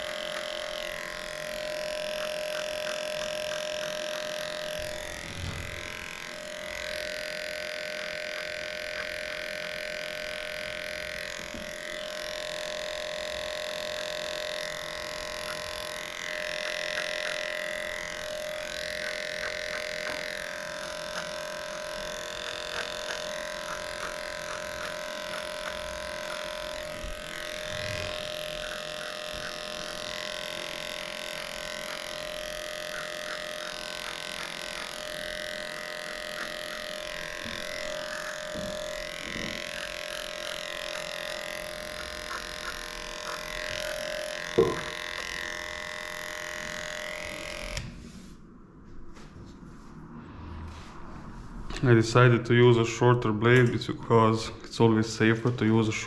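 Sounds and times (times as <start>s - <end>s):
electric clippers humming: 0.0s - 48.2s, 51.7s - 56.0s.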